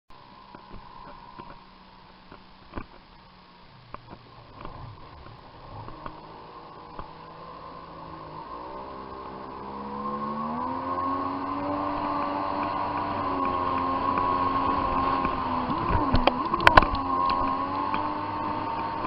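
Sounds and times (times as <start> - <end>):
jet ski engine revving: 3.7 - 19.0.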